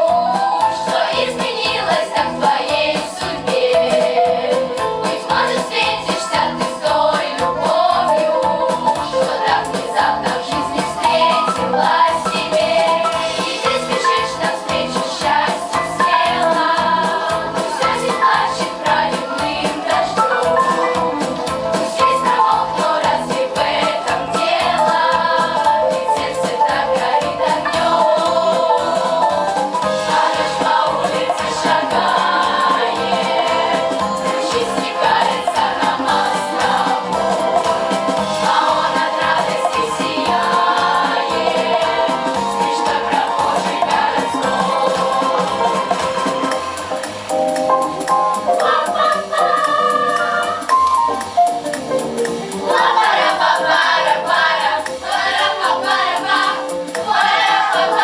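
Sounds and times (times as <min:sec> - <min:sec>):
children's choir singing: 0:00.0 - 0:51.4, 0:52.4 - 0:58.0
musical accompaniment with beat: 0:00.0 - 0:58.0.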